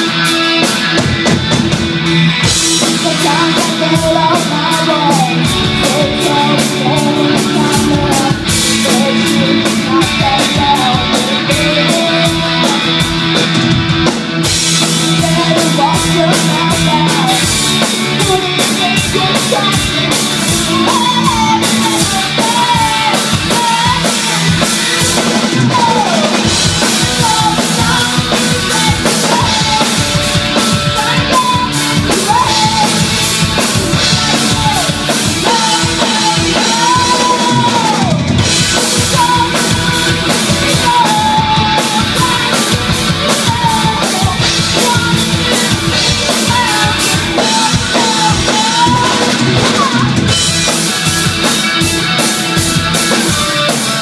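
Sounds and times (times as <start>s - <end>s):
bass guitar: 0.0s - 54.0s
drum kit: 0.0s - 54.0s
electric guitars: 0.0s - 54.0s
girl singing: 2.8s - 13.6s, 14.7s - 51.4s.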